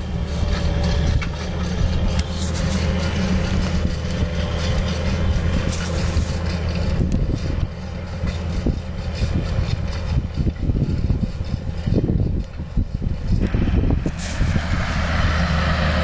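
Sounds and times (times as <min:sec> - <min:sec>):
engine humming: 0:00.0 - 0:16.0
wind rumbling on microphone: 0:00.0 - 0:16.0.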